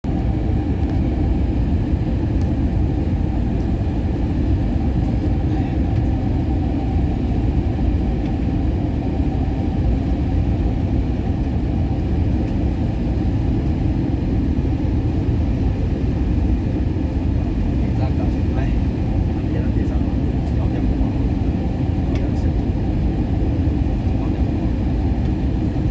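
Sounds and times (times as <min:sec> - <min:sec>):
airliner cabin drone: 0:00.0 - 0:25.9.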